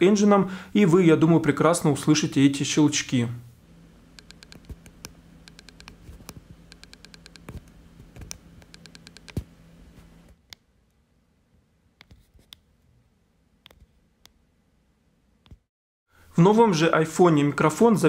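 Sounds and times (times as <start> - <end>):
background hum: 0.1 - 16.5.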